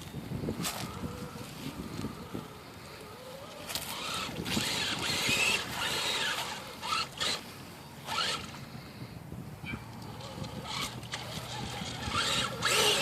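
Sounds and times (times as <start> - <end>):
electric motor whining: 0.6 - 8.6, 9.9 - 13.0.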